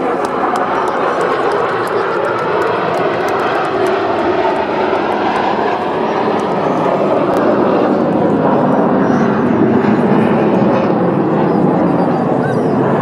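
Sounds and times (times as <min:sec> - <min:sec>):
jet aircraft flying over: 0:00.0 - 0:13.0.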